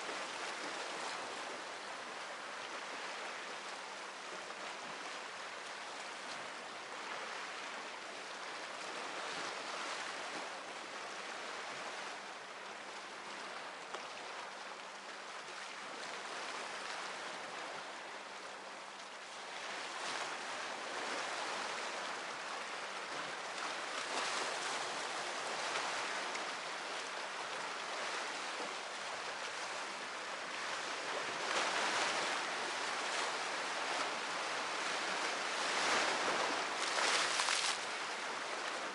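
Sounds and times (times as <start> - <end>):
waves washing onto shore: 0.0 - 38.9.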